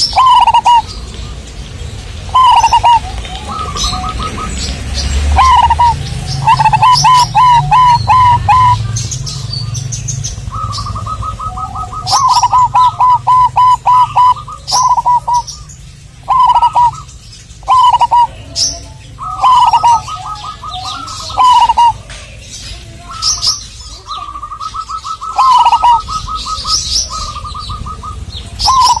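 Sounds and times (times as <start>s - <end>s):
doves cooing: 0.0s - 29.0s
small birds chirping: 0.0s - 29.0s.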